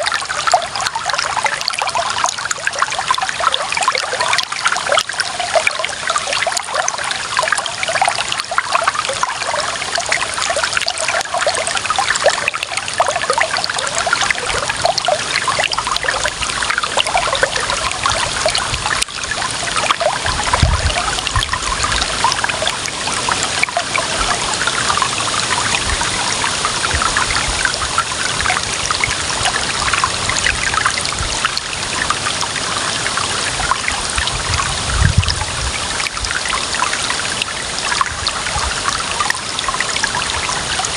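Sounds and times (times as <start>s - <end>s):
water trickling in stream: 0.0s - 40.9s.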